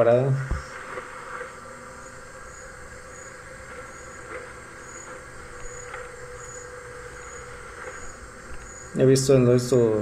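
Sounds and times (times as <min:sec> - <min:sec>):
faint tractor engine running: 0:00.4 - 0:10.0.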